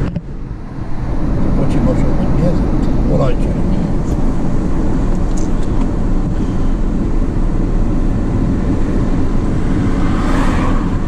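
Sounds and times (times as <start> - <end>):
car driving engine and tyre noise: 0.0 - 11.0.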